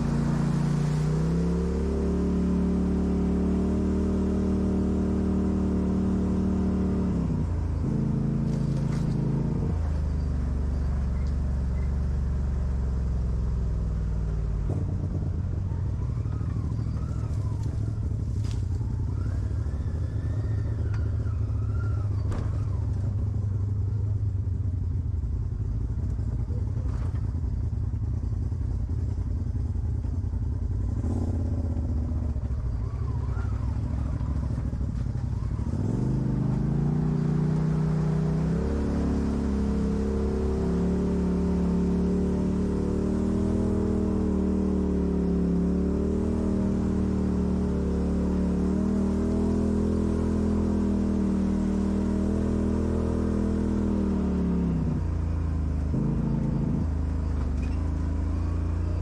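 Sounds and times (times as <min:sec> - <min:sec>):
off-road vehicle engine under load: 0:00.0 - 0:59.0.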